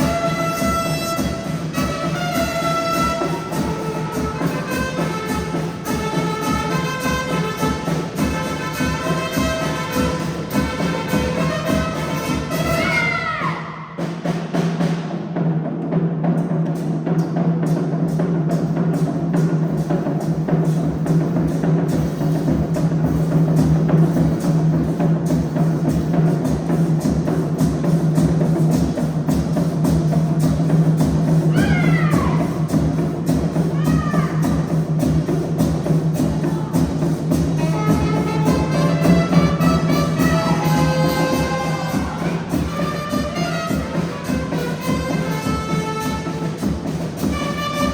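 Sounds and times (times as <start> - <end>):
fast drum beat: 0.0 - 47.9.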